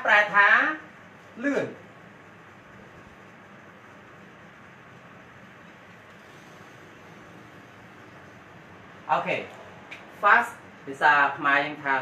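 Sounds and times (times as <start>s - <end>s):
low hiss of room noise: 0.0s - 12.0s.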